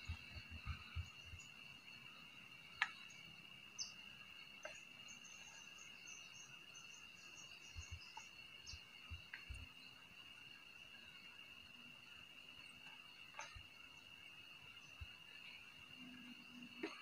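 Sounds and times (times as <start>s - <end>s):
insect chirps: 0.0s - 17.0s
insects droning: 0.0s - 17.0s.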